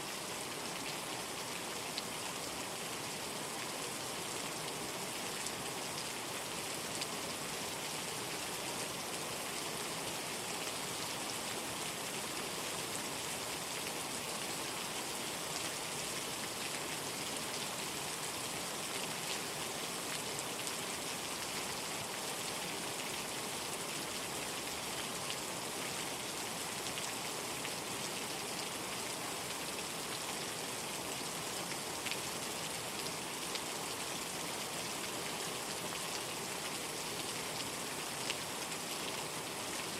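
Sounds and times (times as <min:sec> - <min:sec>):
steady rain falling: 0:00.0 - 0:39.9
raindrops ticking on a surface: 0:03.5 - 0:39.9.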